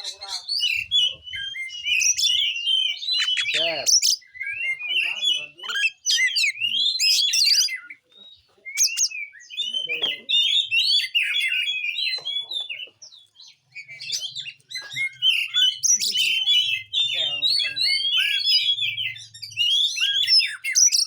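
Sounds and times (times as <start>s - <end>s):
bird singing whistled phrases: 0.0s - 21.0s.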